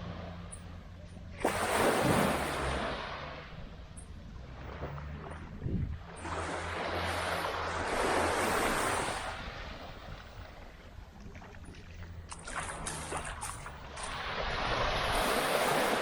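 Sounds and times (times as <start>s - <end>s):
low steady hum: 0.0s - 15.2s
small waves washing on beach: 0.0s - 16.0s.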